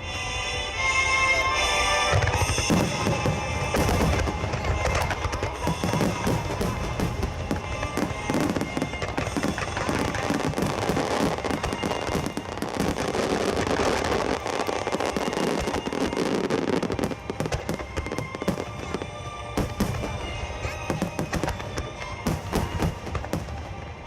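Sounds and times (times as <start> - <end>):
music over loudspeakers: 0.0 - 23.6
fireworks bursting and crackling: 1.7 - 24.0.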